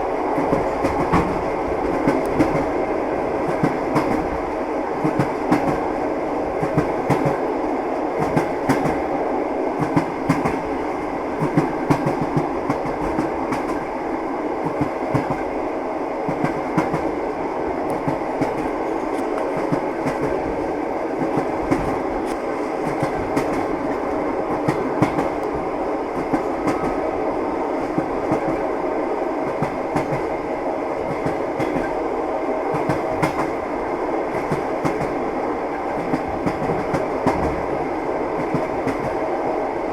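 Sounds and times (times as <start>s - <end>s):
train wheels clattering on rails: 0.3s - 7.5s, 8.2s - 9.1s, 9.8s - 14.0s, 14.6s - 15.6s, 16.2s - 17.2s, 17.8s - 27.1s, 27.8s - 28.7s, 29.4s - 30.4s, 31.0s - 32.0s, 32.7s - 39.3s.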